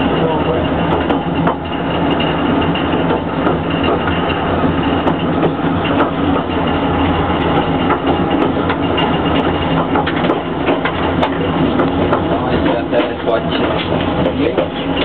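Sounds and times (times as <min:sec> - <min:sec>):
clicks of wheels and couplings: 0:00.0 - 0:15.0
diesel engine running: 0:00.0 - 0:15.0
train carriage rattling: 0:00.0 - 0:15.0.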